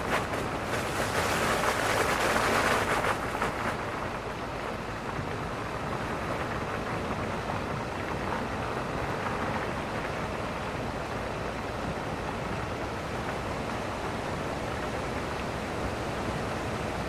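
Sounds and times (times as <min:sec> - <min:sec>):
vehicle driving on sand: 0:00.0 - 0:17.0.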